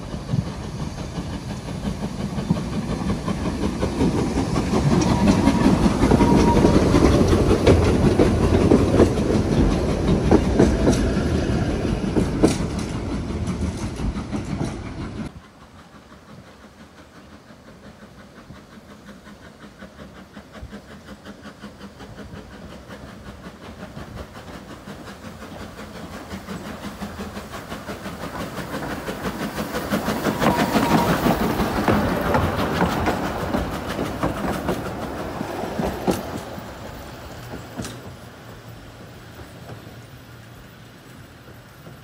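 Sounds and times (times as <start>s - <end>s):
train wheels clattering over joints: 0.0s - 42.0s.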